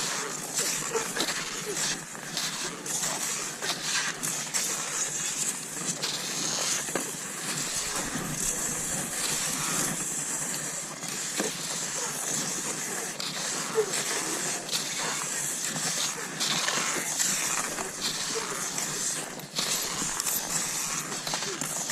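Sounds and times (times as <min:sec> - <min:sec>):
skis swishing over snow: 0:00.0 - 0:21.9
snow crunches: 0:00.0 - 0:21.9.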